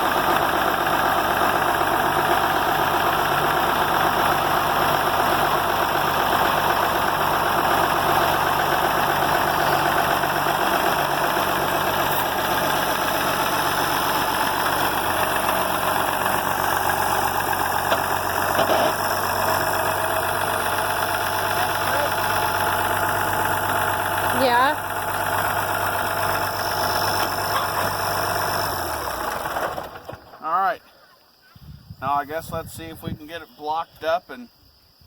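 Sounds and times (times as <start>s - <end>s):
tractor engine running: 0.0s - 30.5s.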